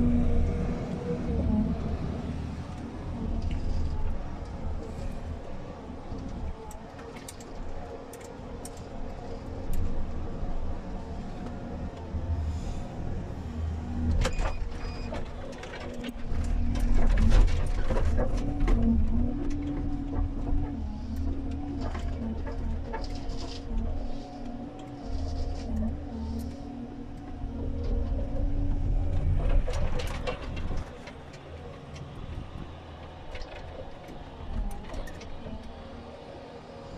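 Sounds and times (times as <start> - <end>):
diesel engine and hydraulics running: 0.0 - 36.9.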